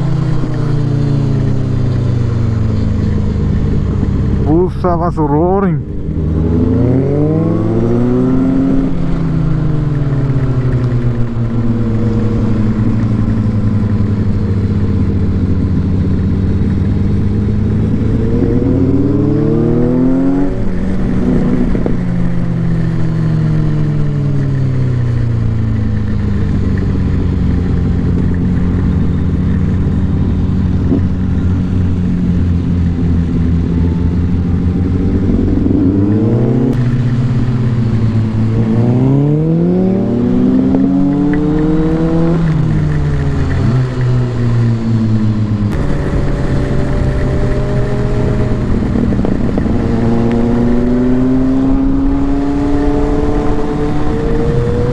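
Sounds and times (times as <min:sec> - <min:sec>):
motorcycle engine revving: 0:00.0 - 0:54.9
wind and tyres on wet road: 0:00.0 - 0:54.9.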